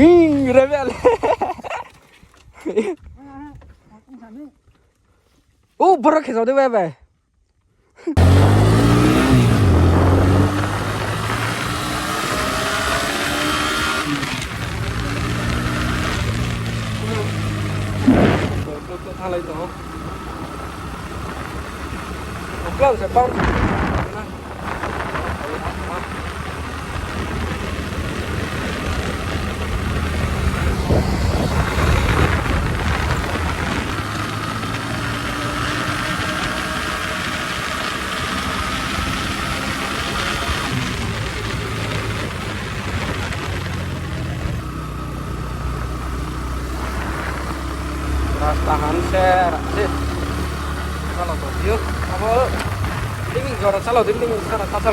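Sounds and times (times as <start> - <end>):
motorcycle engine running: 8.2 - 54.9
wind rush on microphone: 9.0 - 18.7, 20.4 - 54.9.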